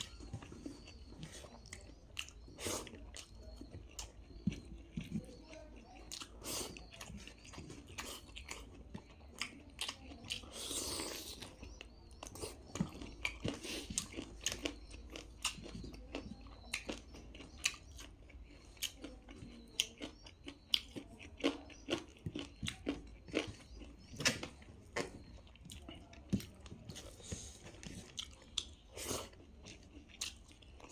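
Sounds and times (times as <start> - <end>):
person chewing and biting: 6.0 - 30.9.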